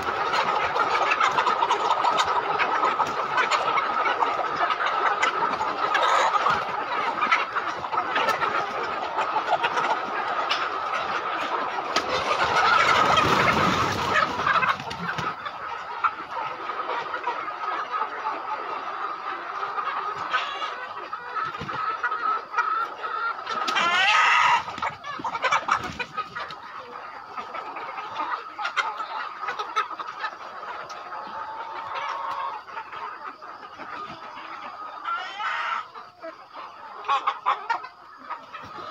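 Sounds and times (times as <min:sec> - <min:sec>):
chickens clucking and calling: 0:00.0 - 0:38.9.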